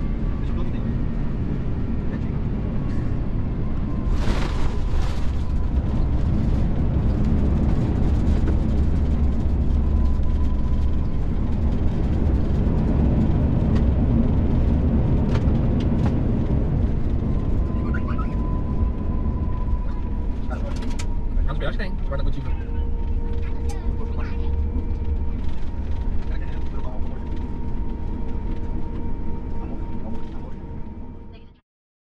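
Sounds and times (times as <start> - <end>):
jet cabin low rumble: 0.0 - 31.6.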